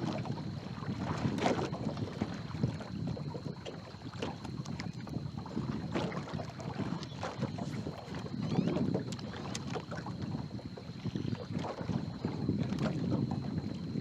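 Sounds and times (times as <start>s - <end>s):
waves slapping against hull: 0.0s - 14.0s
wind buffeting microphone: 0.0s - 14.0s.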